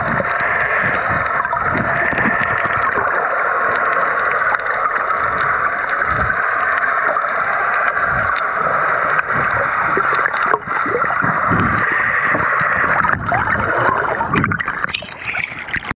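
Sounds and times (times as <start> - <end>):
underwater rush of water: 0.0 - 16.0.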